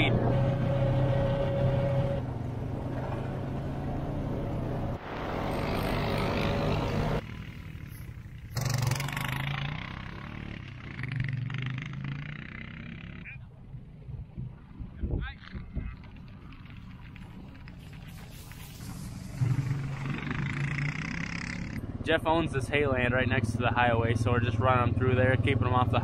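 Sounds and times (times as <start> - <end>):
atv engine running: 0.0 - 26.0
wind and road noise: 0.0 - 26.0.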